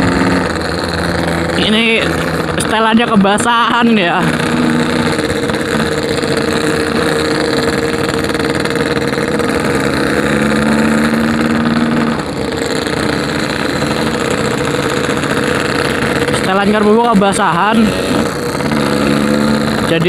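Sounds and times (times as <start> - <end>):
two-stroke motorcycle engine running: 0.0 - 20.0.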